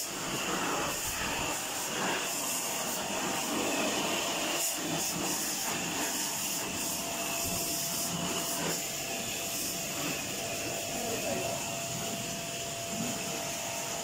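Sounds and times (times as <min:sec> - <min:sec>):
electric pressure washer running: 0:00.0 - 0:14.0
water jet hissing: 0:00.0 - 0:14.0.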